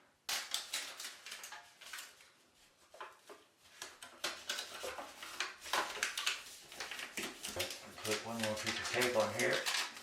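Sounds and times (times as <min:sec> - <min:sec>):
foil tape crinkling: 0:00.3 - 0:02.4, 0:03.0 - 0:10.0.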